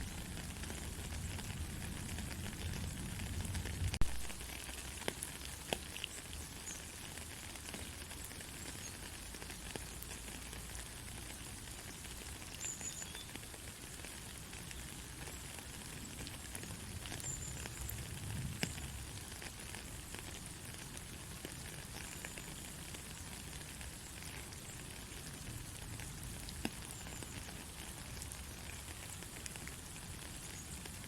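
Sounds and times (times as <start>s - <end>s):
raindrops ticking: 0.0s - 31.0s
soft rain hiss: 0.0s - 31.0s.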